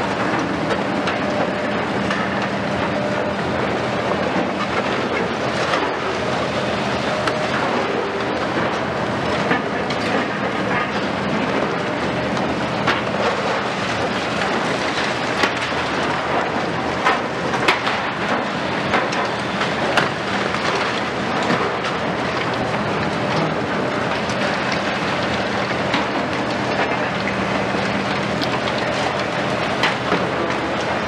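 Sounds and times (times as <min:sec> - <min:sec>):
diesel excavator engines humming: 0:00.0 - 0:31.0.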